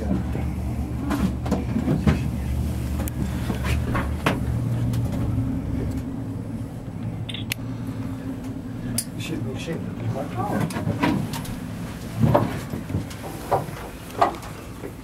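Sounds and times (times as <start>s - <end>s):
cable car rumbling: 0.0s - 15.0s.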